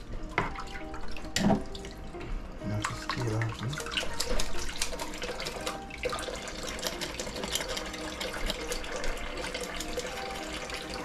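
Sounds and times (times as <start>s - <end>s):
tap water running into a sink: 0.3s - 2.1s, 2.8s - 11.0s.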